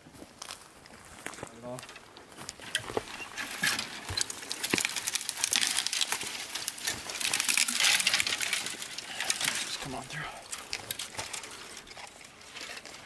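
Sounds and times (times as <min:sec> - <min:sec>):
footsteps through dry brush: 0:00.0 - 0:13.0
twigs snapping and crackling: 0:00.4 - 0:13.0.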